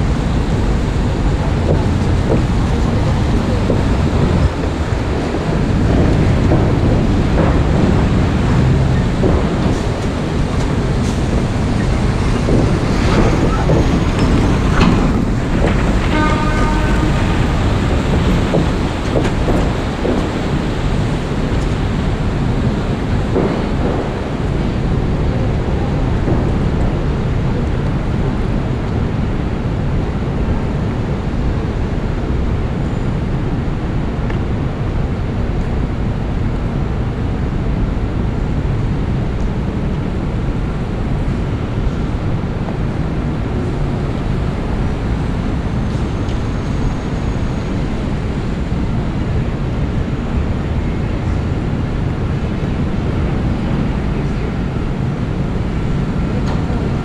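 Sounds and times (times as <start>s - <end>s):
traffic rumble on wet streets: 0.0s - 57.0s.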